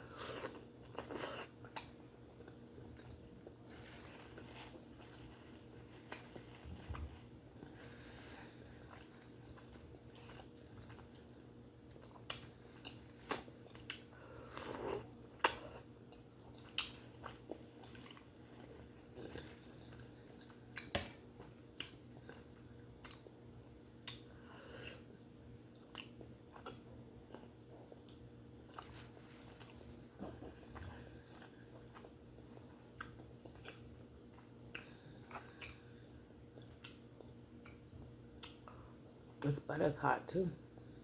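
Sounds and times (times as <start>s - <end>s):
person chewing wetly: 0.0s - 39.5s
faint steady hum: 0.0s - 41.0s.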